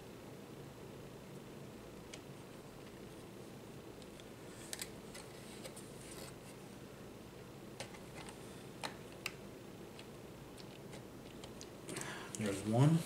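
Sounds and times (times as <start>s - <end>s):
faint background hum: 0.0s - 13.0s.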